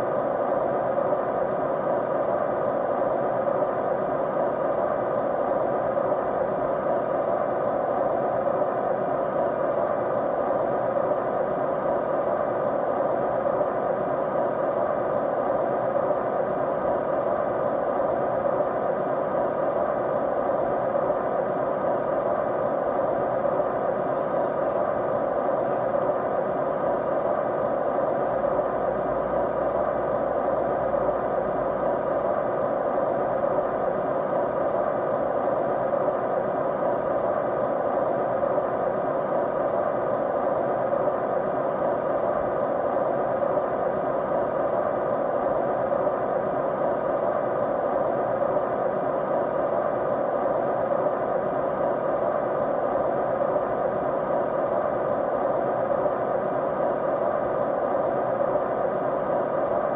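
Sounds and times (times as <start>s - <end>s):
faint steady tones: 0.0s - 59.9s
white noise: 0.0s - 59.9s.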